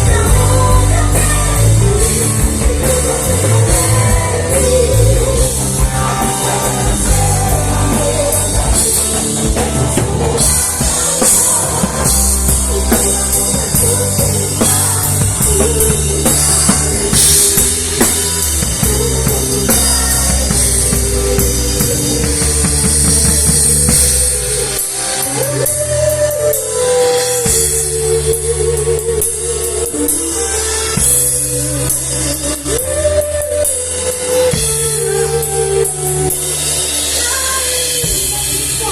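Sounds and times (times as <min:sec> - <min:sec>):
drum kit: 0:00.0 - 0:38.9
live band playing: 0:00.0 - 0:38.9.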